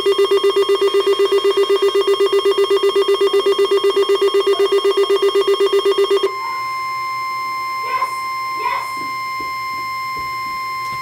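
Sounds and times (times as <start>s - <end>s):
pulsing beeps: 0.0s - 11.0s
steady alarm tone: 0.0s - 11.0s.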